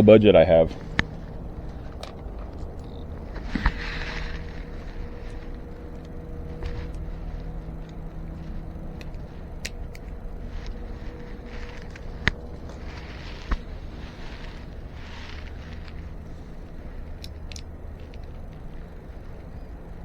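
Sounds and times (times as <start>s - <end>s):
faint hum: 0.0s - 20.0s
low rumble: 0.0s - 20.0s
small metal parts clicking: 0.7s - 20.0s.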